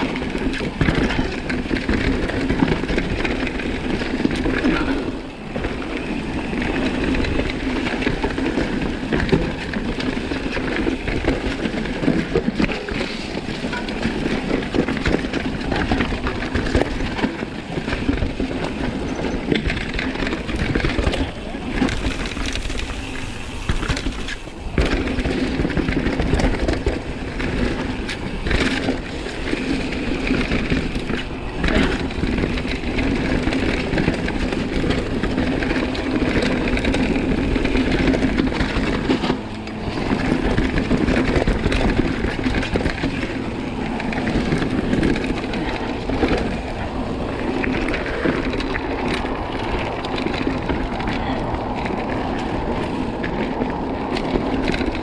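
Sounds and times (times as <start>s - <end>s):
bike clattering over bumps: 0.0s - 55.0s
bike tyres rumbling over dirt: 0.0s - 55.0s.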